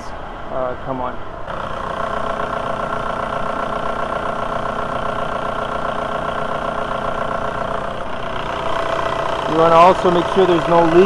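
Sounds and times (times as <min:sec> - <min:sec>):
diesel engine idling: 0:01.4 - 0:11.0.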